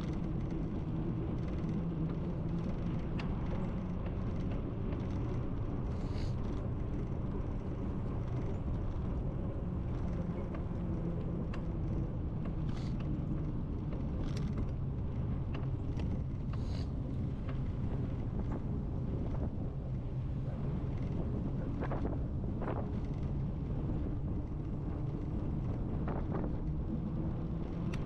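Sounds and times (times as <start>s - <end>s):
bicycle road noise: 0.0s - 28.0s
wind buffeting microphone: 0.0s - 28.0s.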